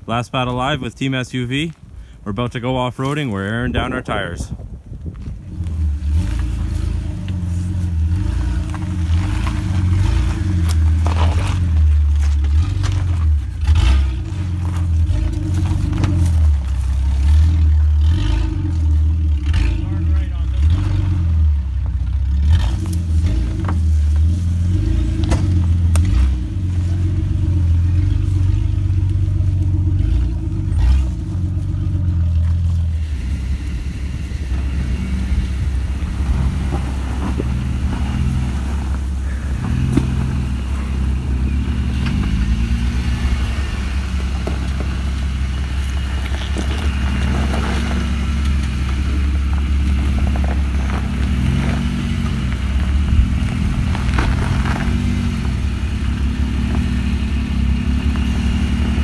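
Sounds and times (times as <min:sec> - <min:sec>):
off-road vehicle engines revving: 0:00.0 - 0:59.0.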